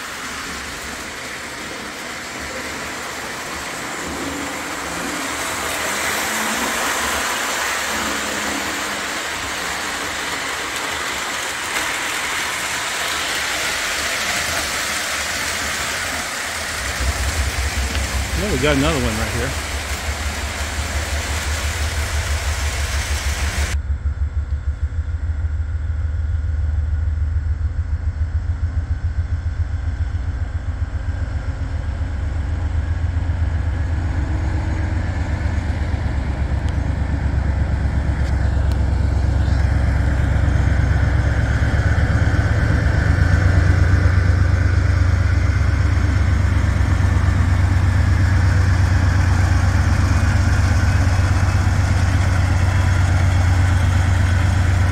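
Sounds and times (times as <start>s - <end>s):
toy train humming on track: 0.0s - 23.8s, 30.8s - 54.9s.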